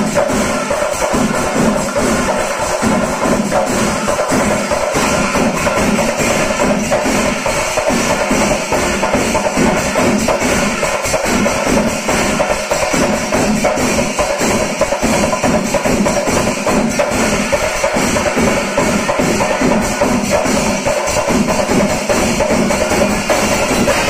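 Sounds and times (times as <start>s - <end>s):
cymbals jingling: 0.0s - 24.0s
drums beating rapidly: 0.0s - 24.0s.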